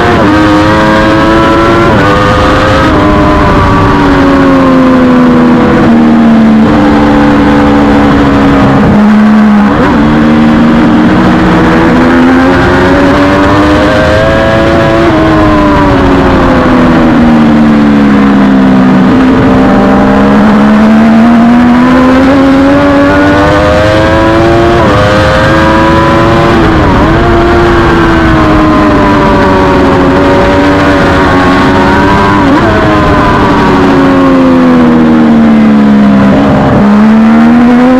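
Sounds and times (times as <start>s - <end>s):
motorcycle engine at race pace: 0.0s - 37.9s.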